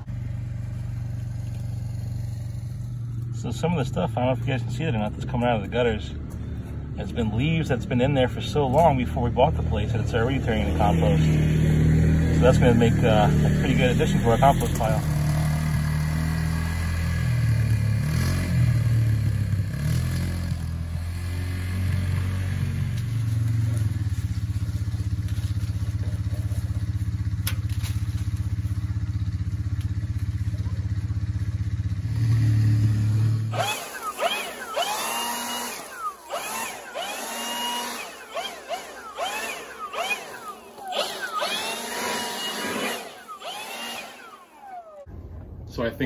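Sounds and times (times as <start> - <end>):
atv engine running: 0.0 - 45.4.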